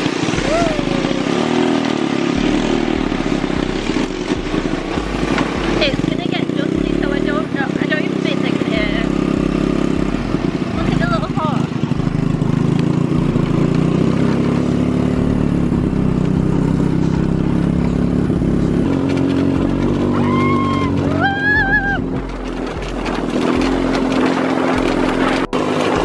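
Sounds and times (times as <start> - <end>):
buggy engine running: 0.0 - 26.0
road and wind noise: 0.0 - 26.0.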